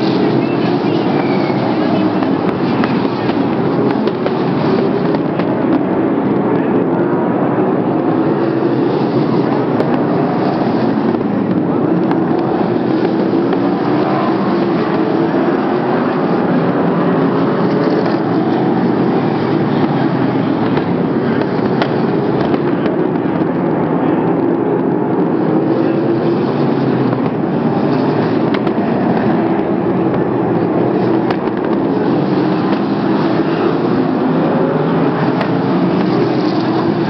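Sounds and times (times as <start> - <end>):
racing car engines: 0.0 - 37.0.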